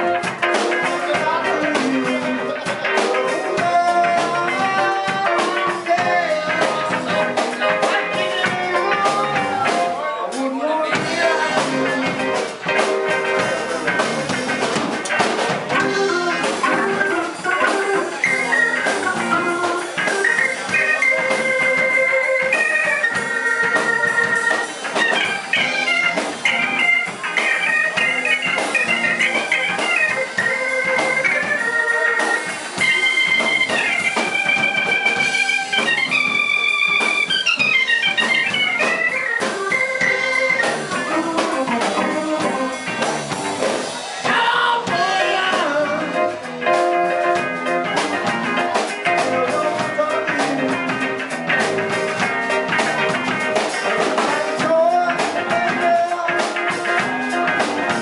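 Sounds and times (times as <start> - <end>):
drums: 0.0 - 58.0
electric organ lead: 0.0 - 58.0.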